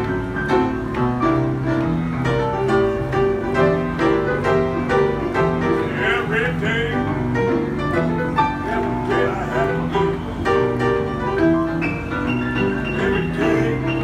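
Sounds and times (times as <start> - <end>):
two pianos playing together: 0.0 - 14.0.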